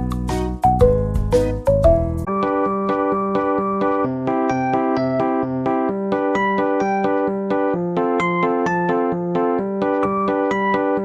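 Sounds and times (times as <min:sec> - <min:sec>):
bouncy electric piano tune: 0:00.0 - 0:11.0.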